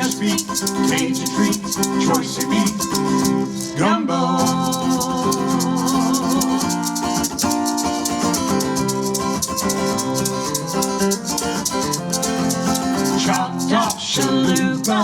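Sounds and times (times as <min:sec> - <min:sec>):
shaker keeping fast beat: 0:00.0 - 0:03.8, 0:04.4 - 0:15.0.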